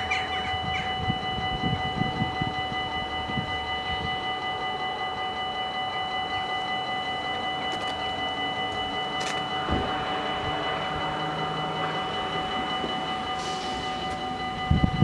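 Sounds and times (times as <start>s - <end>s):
level crossing bells ringing: 0.0s - 15.0s.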